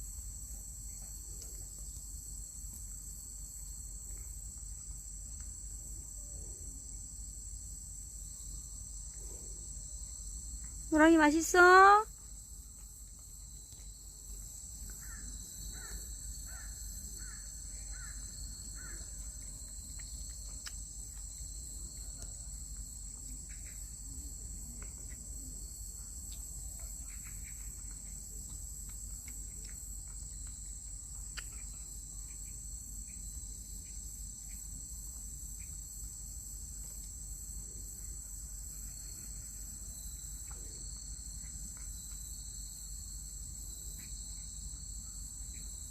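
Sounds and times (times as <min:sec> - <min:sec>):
crickets chirring: 0:00.0 - 0:45.9.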